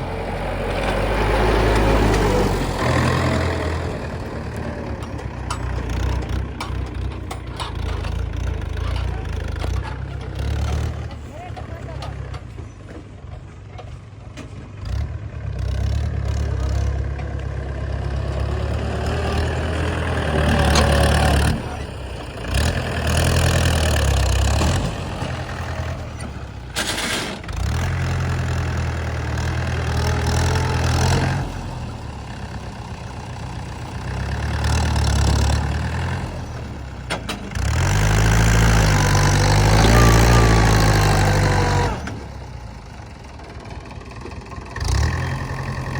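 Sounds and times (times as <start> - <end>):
diesel engine revving: 0.0 - 12.6, 14.7 - 45.9.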